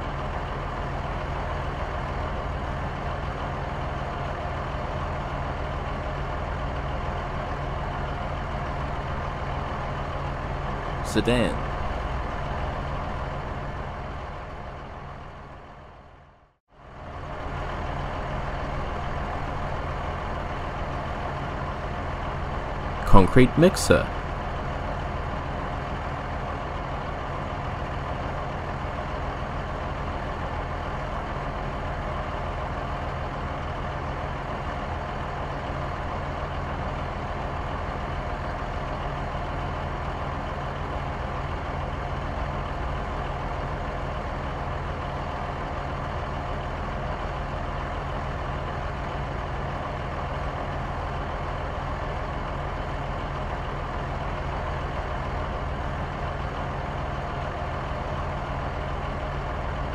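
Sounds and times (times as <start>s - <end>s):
diesel truck engine running: 0.0s - 16.1s, 16.9s - 59.9s.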